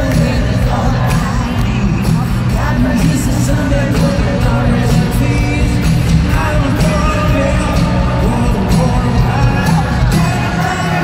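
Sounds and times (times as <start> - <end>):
electric guitars: 0.0 - 11.0
man singing: 0.0 - 11.0
steady drum beat: 0.0 - 11.0.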